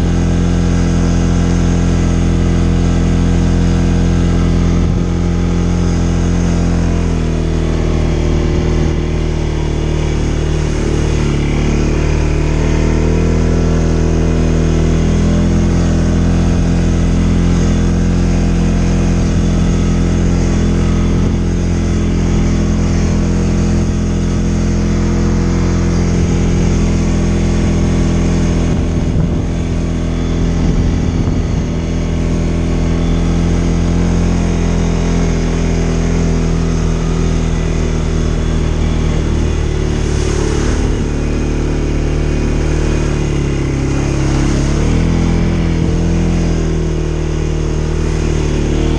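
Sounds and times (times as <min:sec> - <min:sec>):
quad bike engine running: 0:00.0 - 0:48.9.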